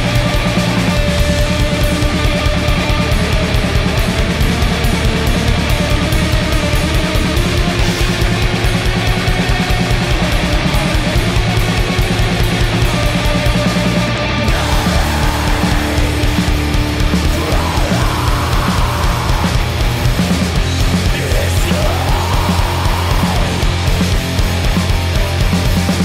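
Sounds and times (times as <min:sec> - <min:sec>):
metal band playing fast: 0:00.0 - 0:26.0.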